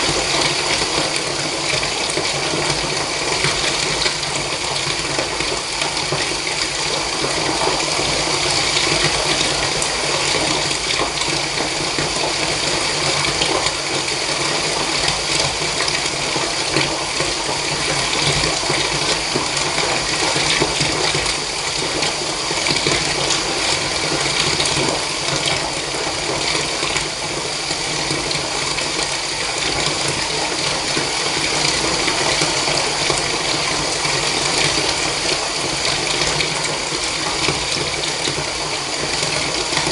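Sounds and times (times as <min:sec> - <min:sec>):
tap water running into a bath: 0:00.0 - 0:39.9.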